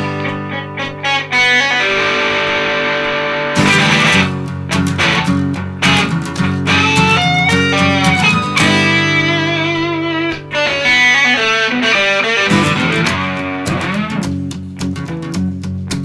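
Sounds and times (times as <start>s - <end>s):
electric guitar lead notes: 0.0s - 16.0s
low guitar and bass notes: 0.0s - 16.0s.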